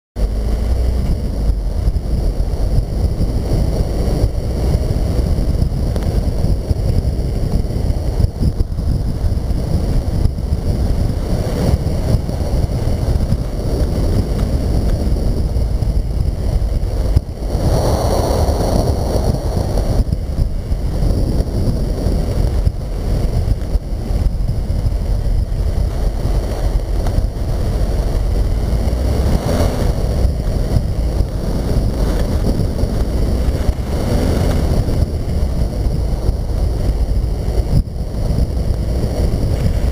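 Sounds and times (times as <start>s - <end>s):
car driving on snowy road: 0.2s - 39.9s
wind buffeting microphone: 0.2s - 39.9s.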